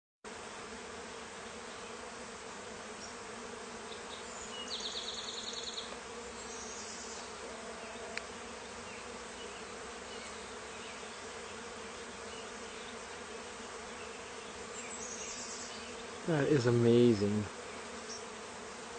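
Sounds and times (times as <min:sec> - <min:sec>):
bees humming: 0:00.3 - 0:18.9.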